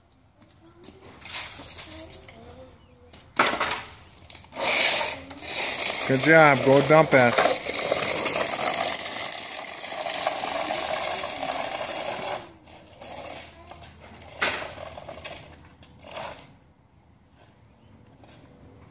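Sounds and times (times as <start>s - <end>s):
toy truck rolling on concrete: 0.4s - 18.9s.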